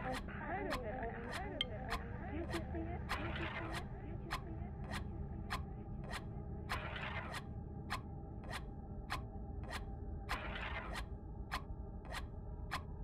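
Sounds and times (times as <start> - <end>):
low steady drone: 1.5 - 13.0.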